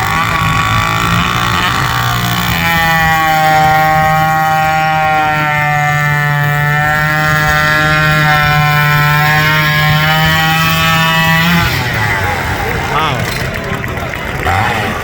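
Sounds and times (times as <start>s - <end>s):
chainsaw engine running: 0.0s - 15.0s.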